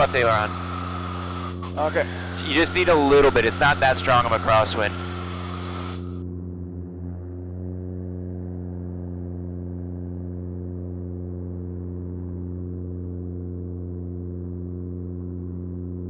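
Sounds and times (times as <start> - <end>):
light aircraft engine and propeller: 0.0 - 16.0.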